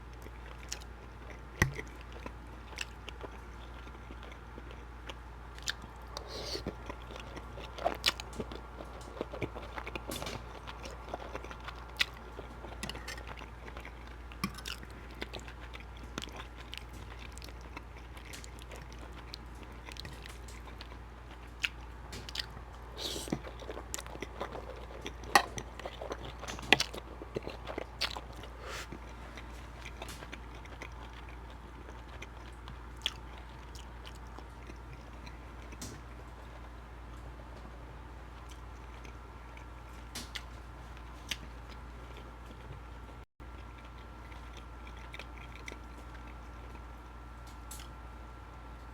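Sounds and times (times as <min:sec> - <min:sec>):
chewing with wet mouth smacks: 0:00.0 - 0:37.2, 0:38.4 - 0:48.0.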